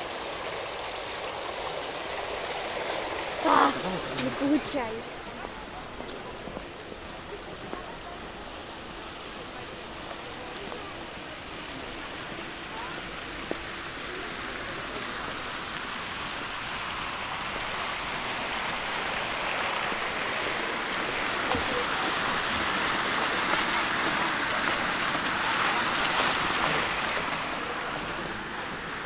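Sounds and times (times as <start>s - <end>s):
fountain water splashing into basin: 0.0s - 29.0s.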